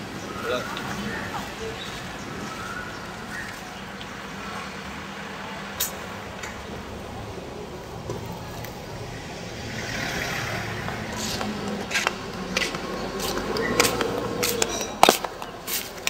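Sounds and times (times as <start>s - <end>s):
traffic hum: 0.0s - 16.0s
vehicle passing: 0.0s - 16.0s.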